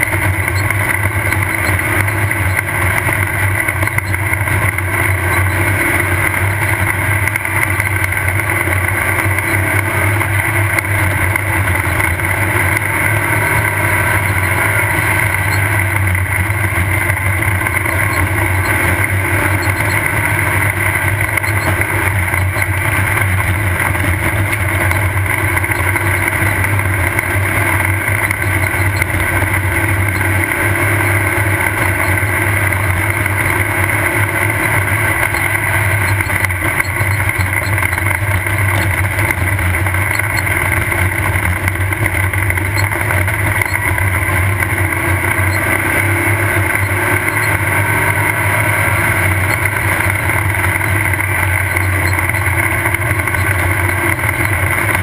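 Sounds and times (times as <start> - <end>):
race car engine running: 0.0 - 55.0
road and wind noise: 0.0 - 55.0.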